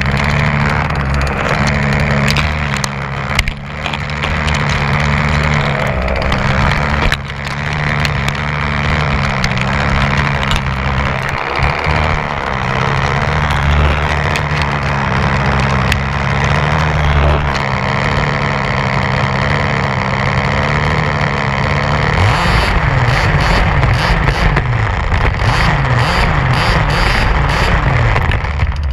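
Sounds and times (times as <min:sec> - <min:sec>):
two-stroke engine revving: 0:00.0 - 0:28.9.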